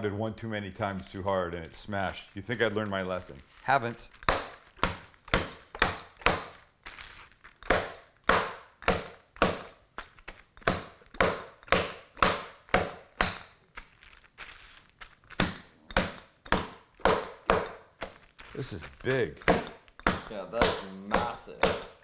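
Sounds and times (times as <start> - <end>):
bottle pounding meat in plastic bag: 0.0 - 22.0.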